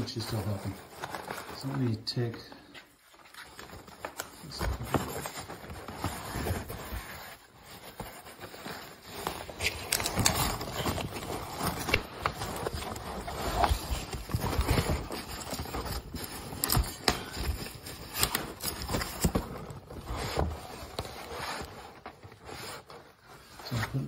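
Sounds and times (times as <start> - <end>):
styrofoam packaging rustling: 0.0 - 24.0.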